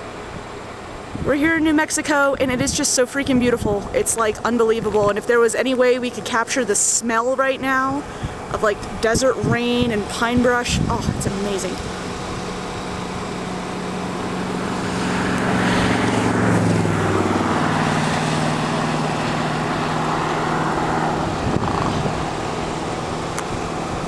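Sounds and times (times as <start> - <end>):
road noise: 0.0 - 24.0
vehicle engine running: 0.0 - 24.0.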